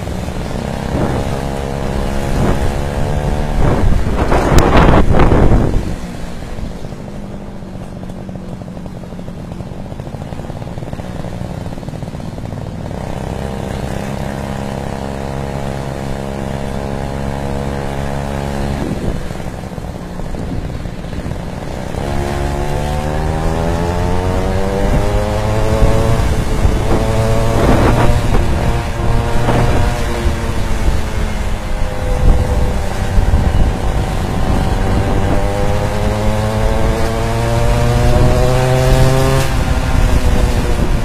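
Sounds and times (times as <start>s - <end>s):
wind gust on microphone: 0.0s - 7.4s, 13.4s - 41.0s
small gasoline scooter engine: 0.0s - 41.0s.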